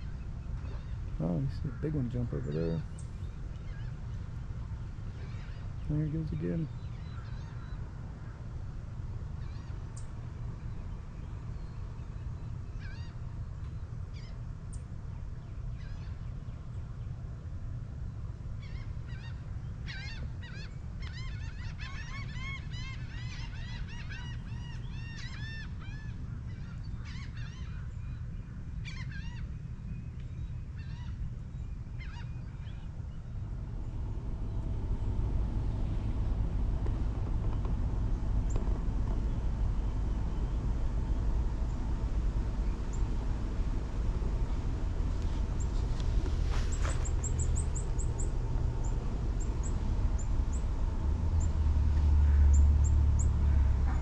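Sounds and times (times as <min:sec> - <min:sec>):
birds calling: 0:00.0 - 0:16.8, 0:18.6 - 0:54.0
steady low rumble: 0:00.0 - 0:54.0.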